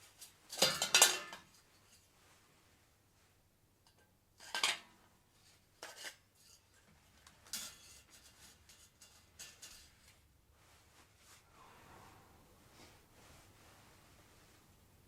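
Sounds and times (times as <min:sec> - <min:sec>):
light metal clinking and scraping: 0:00.0 - 0:02.4, 0:03.8 - 0:14.5.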